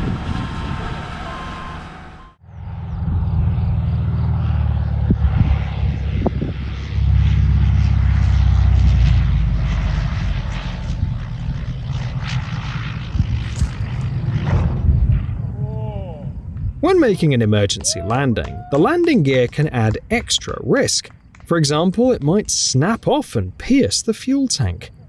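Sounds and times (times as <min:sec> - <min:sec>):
airplane engines rumbling: 0:00.0 - 0:25.0.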